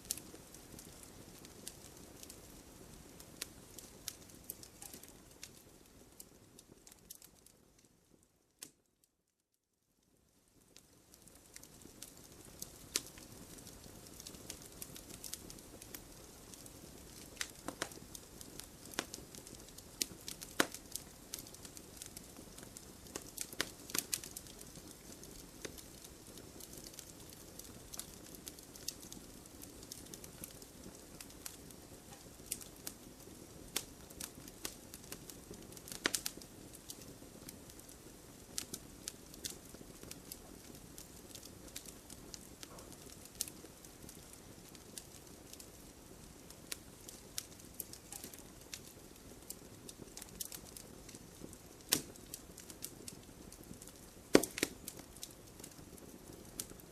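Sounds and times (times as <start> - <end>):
campfire crackling and popping: 0.0 - 8.8, 10.1 - 56.9
low hiss of burning: 0.0 - 56.9.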